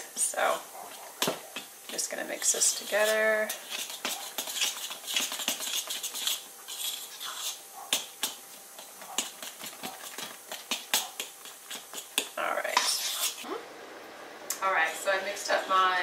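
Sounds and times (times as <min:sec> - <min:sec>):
wet batter stirring: 0:00.4 - 0:13.5.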